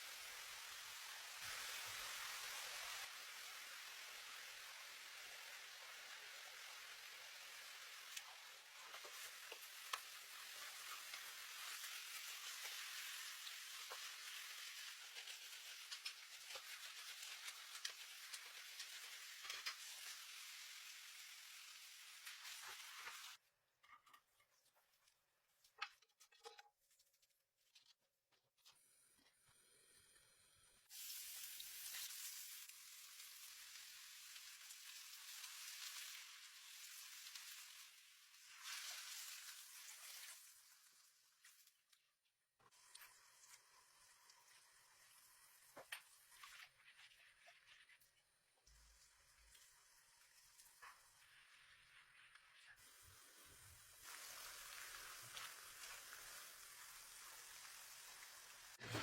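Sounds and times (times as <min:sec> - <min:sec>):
food sizzling in hot oil: 0:00.0 - 0:23.4, 0:29.7 - 0:41.8, 0:42.6 - 0:59.0
oil crackles and pops: 0:00.0 - 0:23.4, 0:30.9 - 0:59.0.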